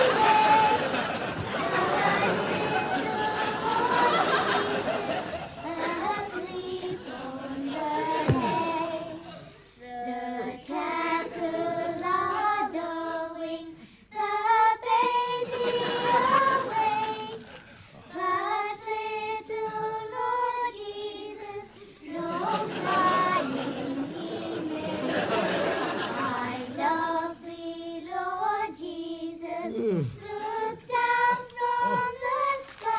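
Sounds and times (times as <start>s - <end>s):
choir singing a carol: 0.0s - 32.9s.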